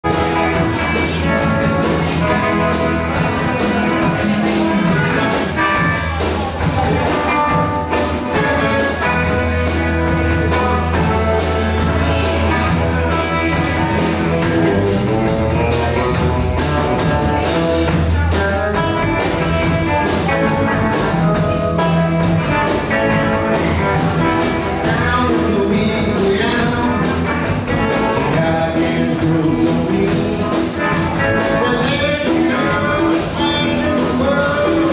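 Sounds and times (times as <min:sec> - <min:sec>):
drum kit: 0:00.0 - 0:34.9
electric guitars: 0:00.0 - 0:34.9
upright double bass: 0:00.0 - 0:34.9.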